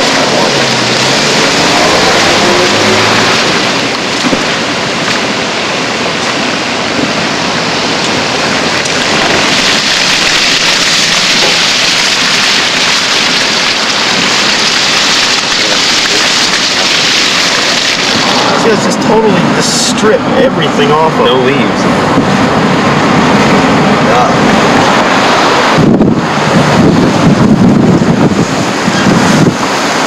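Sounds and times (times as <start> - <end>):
hurricane wind with driving rain: 0.0 - 30.0.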